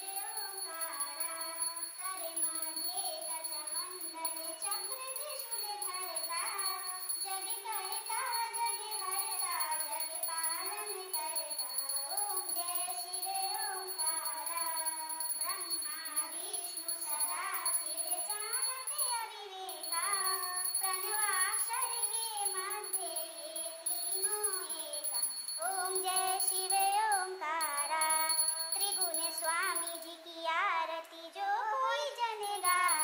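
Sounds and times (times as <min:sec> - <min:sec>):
high voice singing devotional song: 0:00.0 - 0:33.0.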